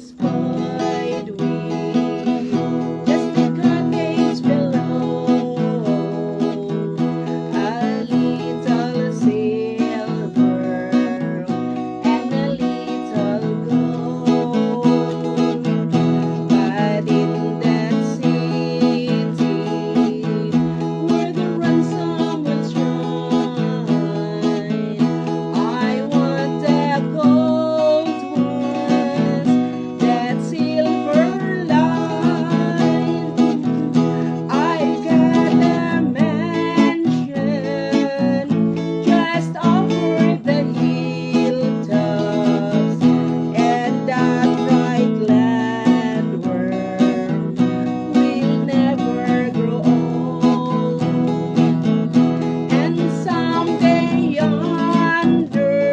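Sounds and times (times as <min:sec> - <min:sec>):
acoustic guitar: 0:00.0 - 0:55.9
person singing: 0:00.0 - 0:55.9.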